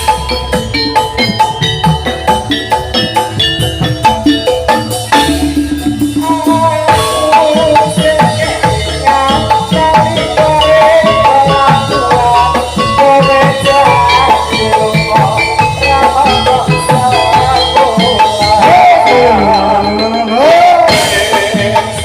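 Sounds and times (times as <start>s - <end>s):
drums: 0.0s - 22.0s
metallophone notes: 0.0s - 22.0s.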